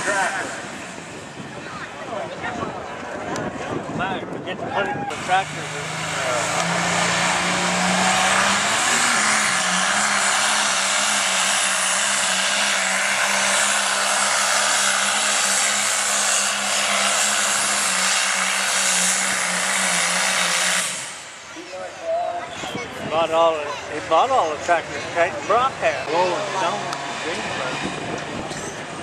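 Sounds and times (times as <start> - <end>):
exhaust and turbo roar: 0.0 - 29.0.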